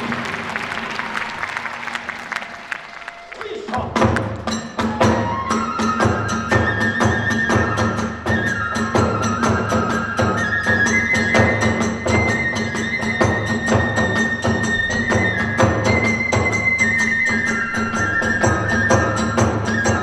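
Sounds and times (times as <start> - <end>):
drums beating: 0.0 - 20.0
bamboo flute melody: 0.8 - 20.0.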